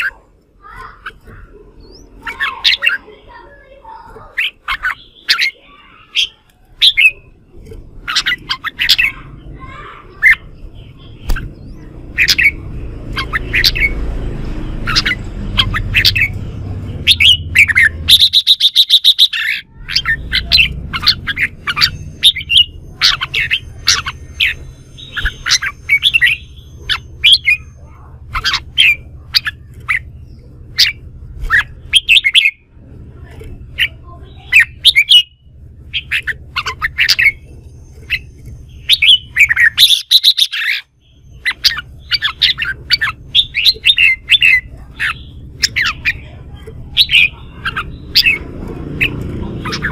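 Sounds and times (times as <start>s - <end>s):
bird singing and calling: 0.0s - 49.9s
fast chattering rattle: 0.6s - 14.0s, 14.8s - 49.9s.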